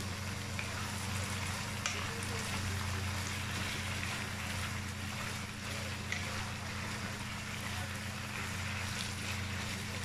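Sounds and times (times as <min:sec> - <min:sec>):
meat and onions sizzling: 0:00.0 - 0:10.0
steady low hum: 0:00.0 - 0:10.0.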